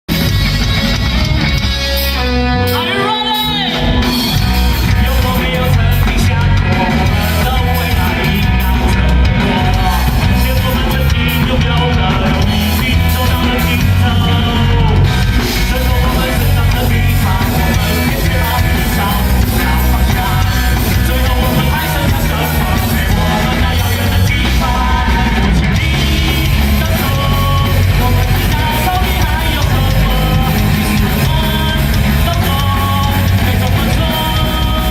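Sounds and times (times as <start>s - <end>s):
rock band playing live: 0.1s - 34.9s.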